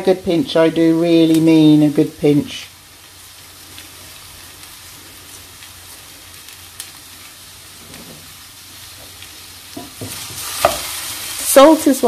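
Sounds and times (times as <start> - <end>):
aubergine sizzling in hot oil: 0.0 - 12.0.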